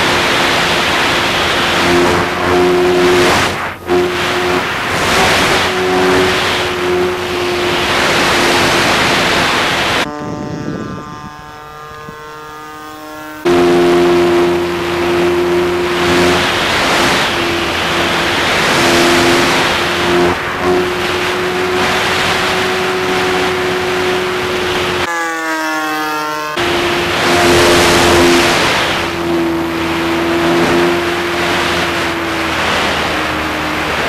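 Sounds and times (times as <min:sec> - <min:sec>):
wind rush: 0:00.0 - 0:12.4, 0:13.4 - 0:25.1, 0:26.6 - 0:34.0
electric motor and propeller whine: 0:00.0 - 0:34.0.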